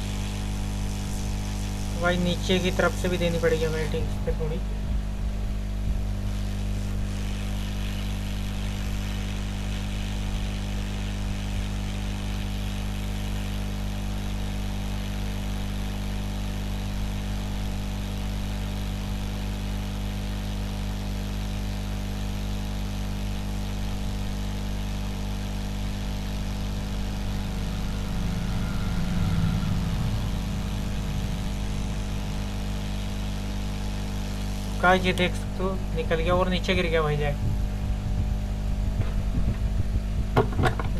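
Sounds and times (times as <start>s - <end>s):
hot-air gun blowing: 0.0s - 38.7s
electrical hum: 0.0s - 40.9s.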